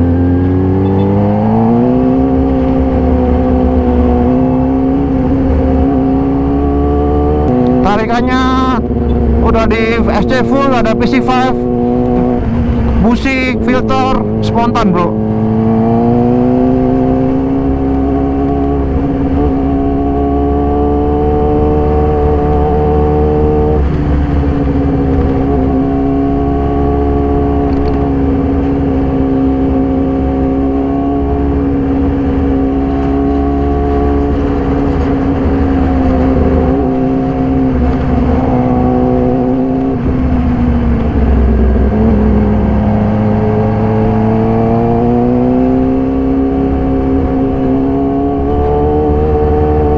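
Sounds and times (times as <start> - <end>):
motorcycle engine at high revs: 0.0 - 49.9.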